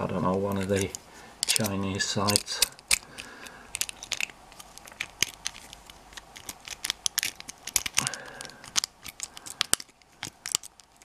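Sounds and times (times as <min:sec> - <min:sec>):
key rattling in lock: 0:00.5 - 0:11.0.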